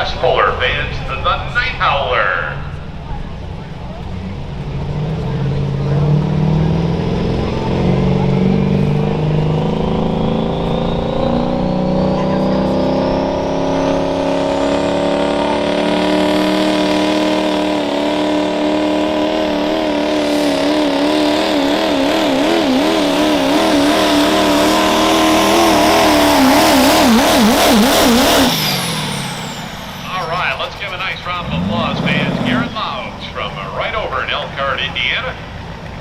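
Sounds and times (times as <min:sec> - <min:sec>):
high whine: 0:00.0 - 0:35.6
diesel truck engine under load: 0:00.0 - 0:36.0.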